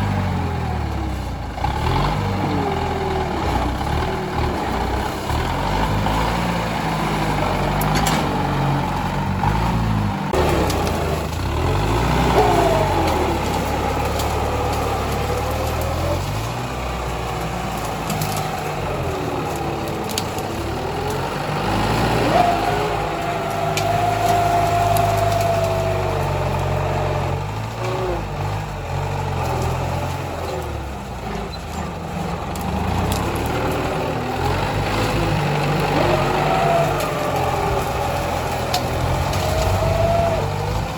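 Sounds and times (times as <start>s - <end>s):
tractor engine under load: 0.0s - 40.9s.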